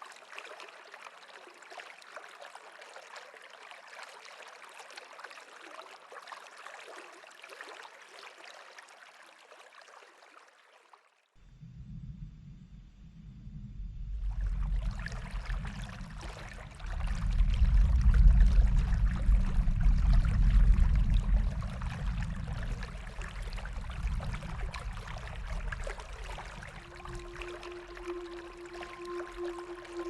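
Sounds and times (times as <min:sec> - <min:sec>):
rushing water with low rumble: 0:00.0 - 0:30.0.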